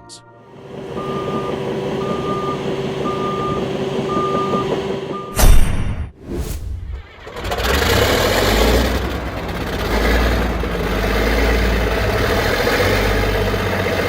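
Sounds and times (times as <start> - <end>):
bulldozer diesel engine rumbling: 0.4 - 5.4, 6.9 - 14.0.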